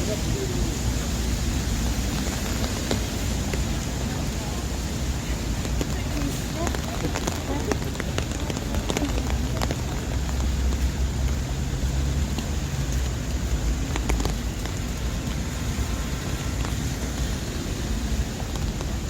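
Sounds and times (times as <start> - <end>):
raindrops tapping: 0.0 - 19.0
steady rain: 0.0 - 19.0
traffic: 0.0 - 19.0.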